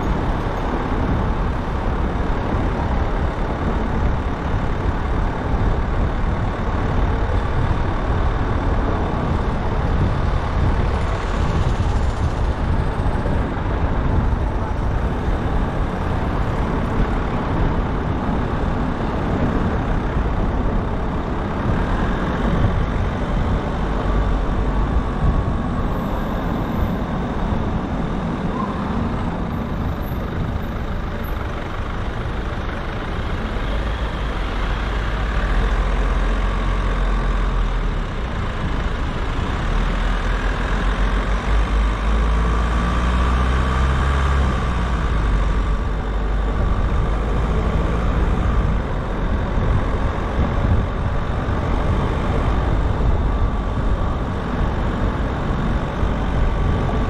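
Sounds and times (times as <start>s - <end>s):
car tyre and engine noise: 0.0s - 57.0s
heavy low rumble: 0.0s - 57.0s.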